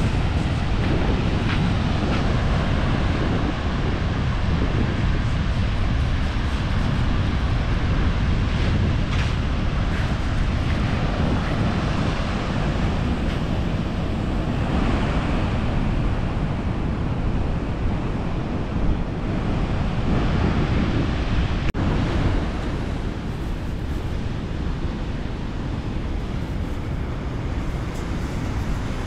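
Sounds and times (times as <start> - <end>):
surf washing onto beach: 0.0 - 29.0
wind rumble on microphone: 0.0 - 29.0.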